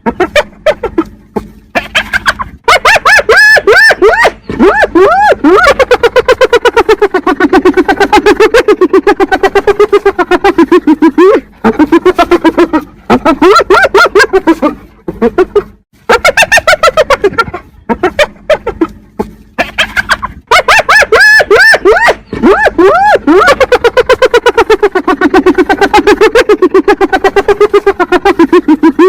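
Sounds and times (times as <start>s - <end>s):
hyena giggling calls: 0.0s - 29.0s.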